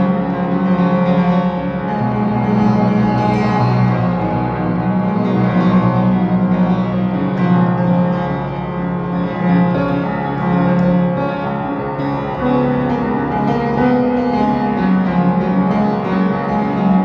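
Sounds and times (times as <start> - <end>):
instrumental music with sustained notes: 0.0 - 17.0.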